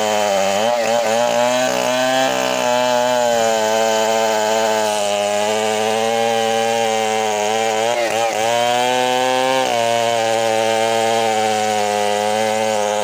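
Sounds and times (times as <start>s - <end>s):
chainsaw cutting timber: 0.0s - 13.0s.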